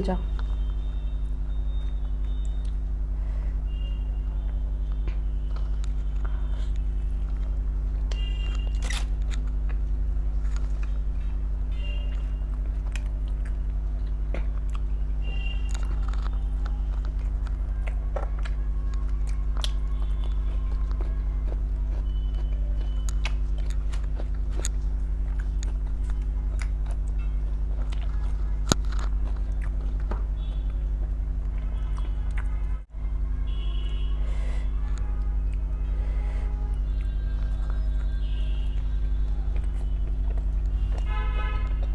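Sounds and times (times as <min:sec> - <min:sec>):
steady low hum: 0:00.0 - 0:41.9
chewing and biting food: 0:00.4 - 0:03.0, 0:03.7 - 0:32.8, 0:33.4 - 0:41.9.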